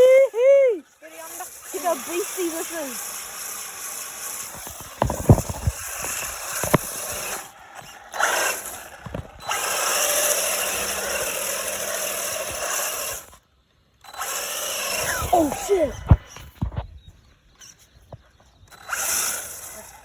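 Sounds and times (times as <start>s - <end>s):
rc car motor and sliding tyres hiss: 0.0s - 16.8s, 17.4s - 20.0s.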